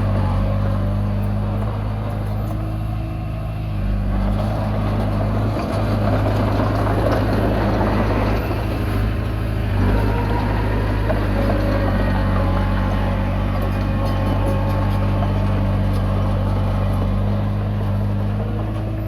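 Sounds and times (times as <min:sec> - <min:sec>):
bulldozer diesel engine running: 0:00.0 - 0:19.0
rough working noise: 0:00.0 - 0:19.0.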